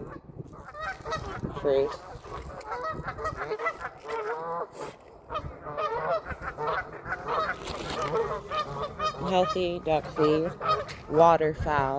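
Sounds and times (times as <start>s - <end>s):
geese honking: 0.0s - 11.7s.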